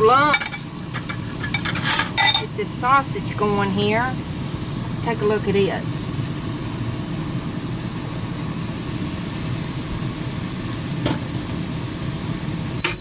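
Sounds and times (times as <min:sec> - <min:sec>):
sausage sizzling in a skillet: 0:00.0 - 0:12.8
air fryer fan humming: 0:00.0 - 0:13.0.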